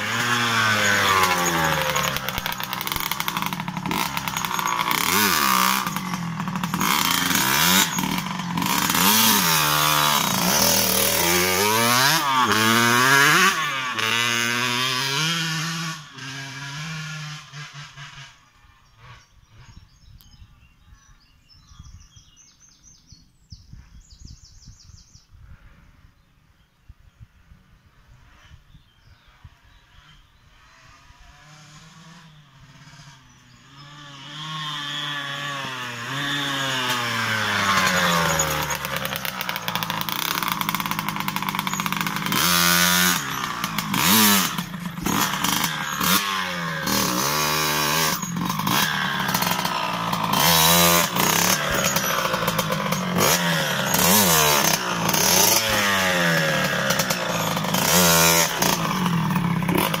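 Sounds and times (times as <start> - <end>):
dirt bike engine revving: 0.0 - 19.8, 29.9 - 60.0.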